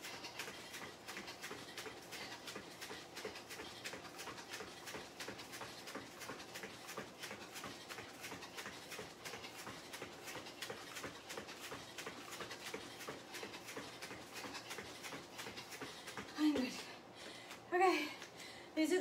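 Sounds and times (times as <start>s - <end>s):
rapid footfalls on rubber mats: 0.0s - 18.3s.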